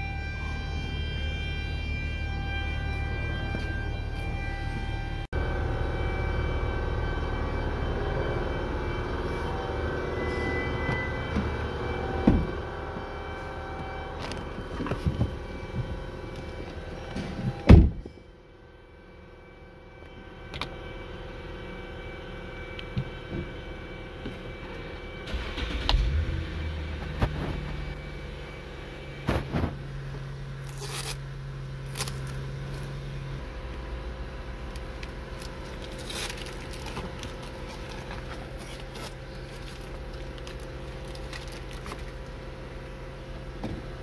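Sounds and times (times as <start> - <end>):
car engine idling: 0.0 - 29.2, 29.8 - 44.0.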